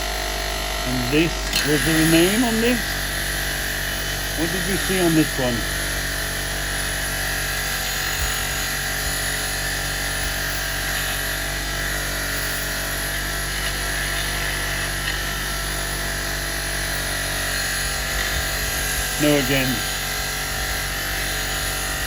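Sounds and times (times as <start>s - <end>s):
powered wire brush whining: 0.0s - 22.0s.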